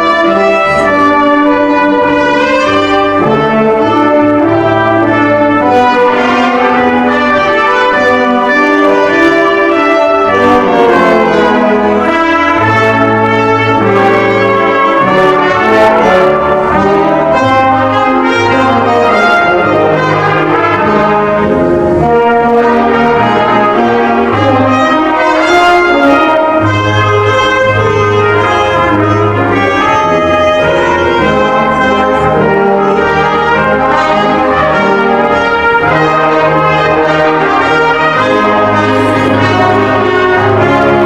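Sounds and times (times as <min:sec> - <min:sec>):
brass ensemble playing chords: 0:00.0 - 0:41.0.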